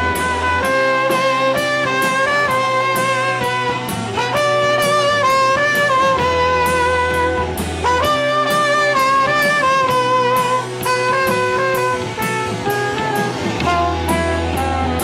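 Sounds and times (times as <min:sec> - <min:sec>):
bass and drums: 0:00.0 - 0:15.0
sustained lead melody: 0:00.0 - 0:15.0.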